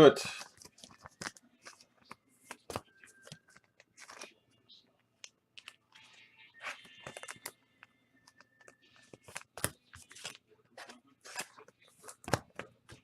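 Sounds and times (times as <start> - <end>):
plastic wrappers crinkling: 0.3 - 4.4, 5.2 - 7.6, 8.2 - 13.0.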